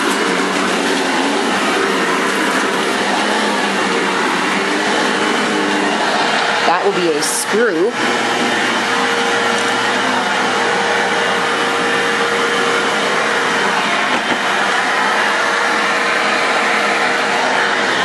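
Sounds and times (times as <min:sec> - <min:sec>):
motor whine: 0:00.0 - 0:18.0
vacuum cleaner running: 0:00.0 - 0:18.0.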